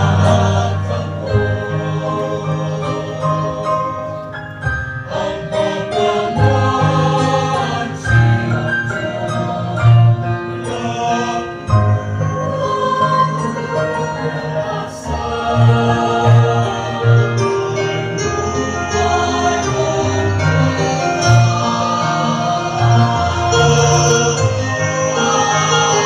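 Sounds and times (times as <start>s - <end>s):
mixed choir singing in harmony: 0.0s - 26.0s.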